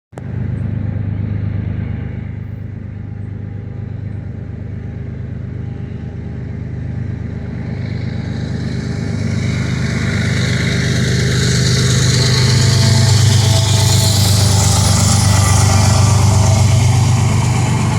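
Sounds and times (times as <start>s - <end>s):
diesel locomotive engine rumble: 0.1s - 17.9s
train rushing noise: 0.2s - 17.9s.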